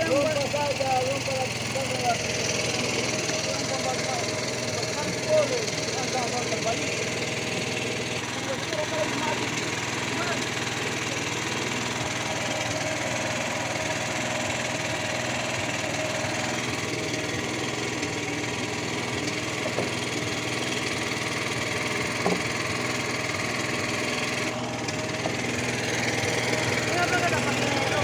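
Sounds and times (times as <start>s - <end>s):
small generator engine running: 0.0s - 28.0s.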